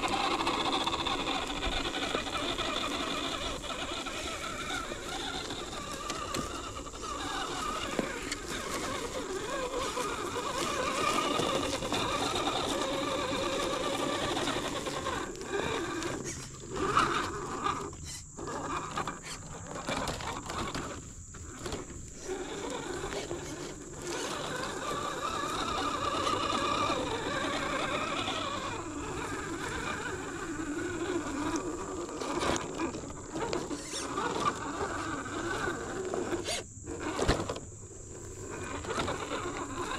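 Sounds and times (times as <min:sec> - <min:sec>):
toy car motor whining: 0:00.0 - 0:39.9.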